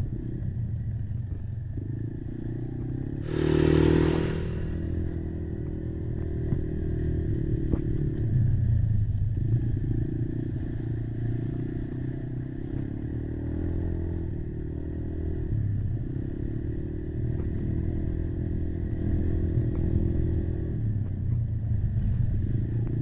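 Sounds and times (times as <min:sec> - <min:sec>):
quad engine running: 0:00.0 - 0:23.0.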